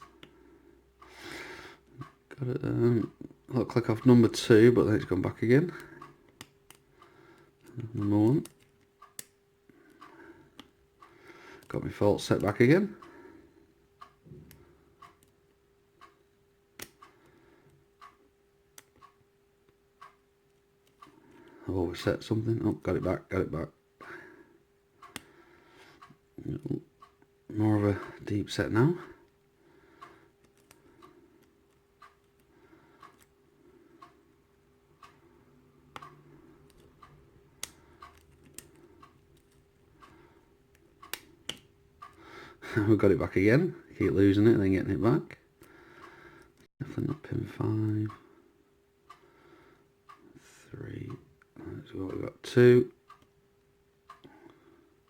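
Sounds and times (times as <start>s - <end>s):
faint steady hum: 0.0s - 55.0s
soft even ticking: 0.0s - 55.0s.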